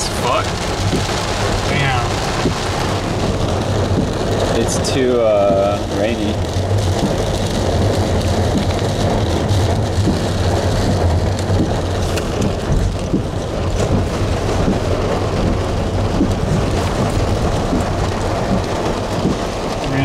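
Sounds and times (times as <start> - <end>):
heavy rain drumming on car roof: 0.0 - 20.0.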